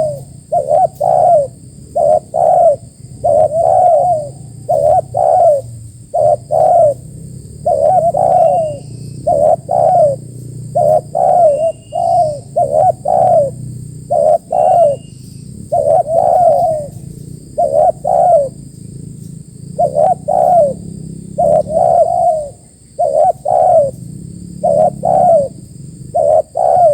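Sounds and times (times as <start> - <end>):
bird chirping: 0.0 - 26.9
doves cooing: 0.0 - 26.9.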